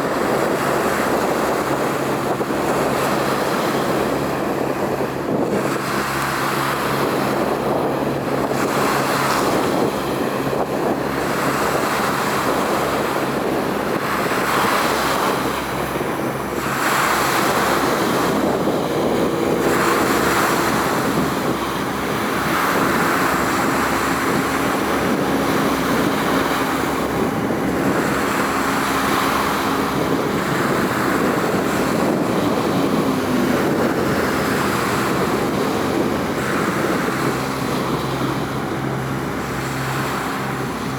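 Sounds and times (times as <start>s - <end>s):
water: 0.0s - 40.9s
wind buffeting microphone: 0.0s - 40.9s.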